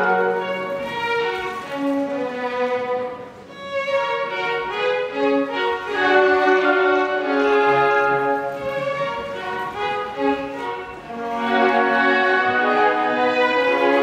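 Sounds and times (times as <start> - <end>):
violins playing held chords: 0.0 - 14.0.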